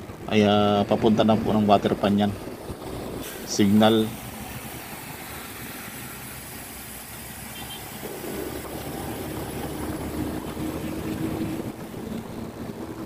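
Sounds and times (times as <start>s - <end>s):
engine hum: 0.0s - 13.0s
wind and road noise: 0.0s - 13.0s.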